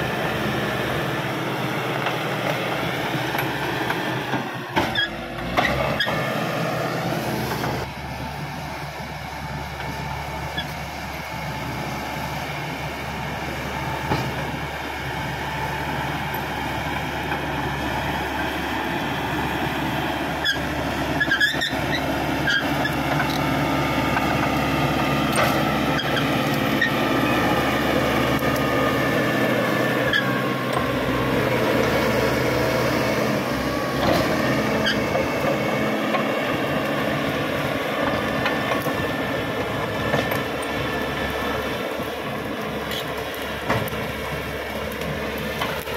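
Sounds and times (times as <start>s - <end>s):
bulldozer diesel engine under load: 0.0s - 45.9s
steel tracks squealing and clanking: 2.4s - 8.0s, 9.0s - 11.8s, 15.3s - 44.3s.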